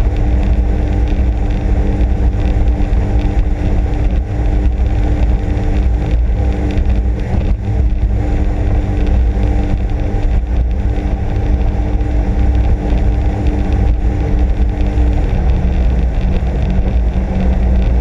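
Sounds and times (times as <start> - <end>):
personal watercraft engine running: 0.0 - 18.0.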